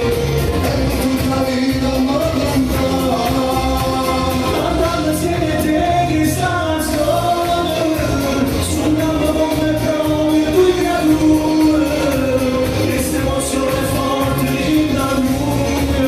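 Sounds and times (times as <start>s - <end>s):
amplified backing music with beat: 0.0s - 16.0s
man singing long held notes: 0.0s - 16.0s.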